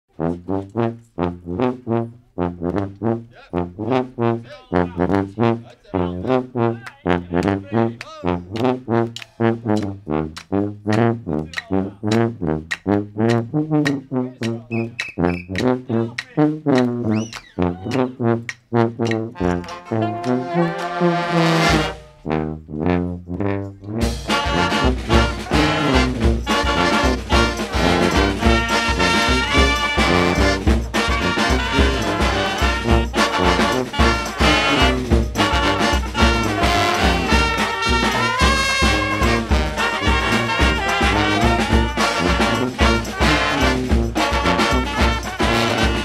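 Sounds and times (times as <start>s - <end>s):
brass band music: 0.0s - 46.0s.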